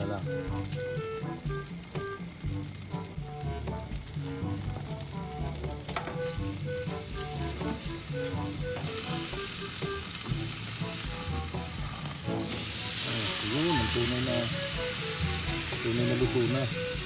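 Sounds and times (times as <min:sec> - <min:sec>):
background music: 0:00.0 - 0:17.0
ribs sizzling on a grill: 0:00.0 - 0:17.0.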